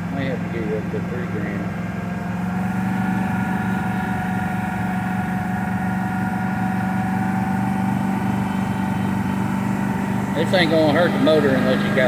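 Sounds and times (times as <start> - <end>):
pickup engine running at raised revs: 0.0 - 12.0.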